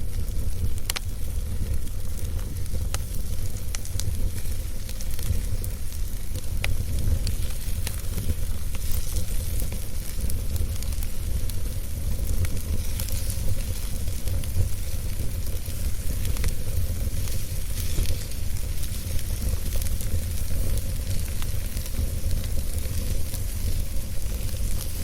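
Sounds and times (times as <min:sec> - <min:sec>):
fire crackling and hissing: 0:00.0 - 0:25.0
fire pops and snaps: 0:00.0 - 0:25.0.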